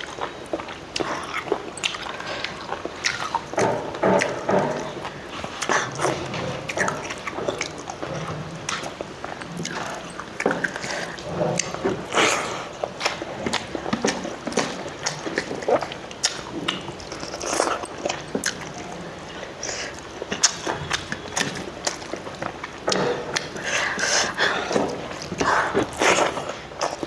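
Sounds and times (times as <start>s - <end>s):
person chewing rice: 0.0s - 27.0s.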